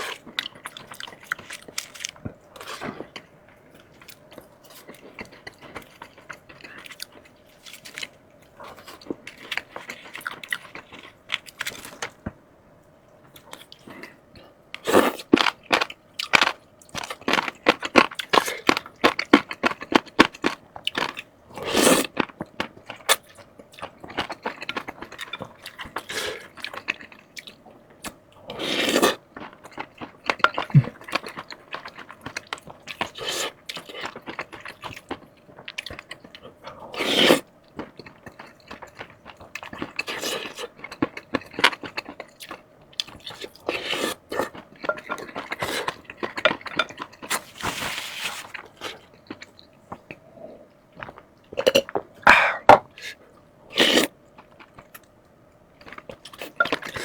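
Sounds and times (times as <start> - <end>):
crunching and chewing fried chicken: 0.0 - 12.4, 13.2 - 57.0.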